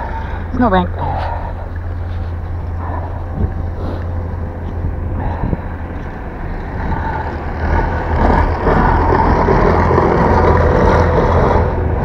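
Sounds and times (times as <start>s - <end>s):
wind buffeting microphone: 1.2s - 12.0s.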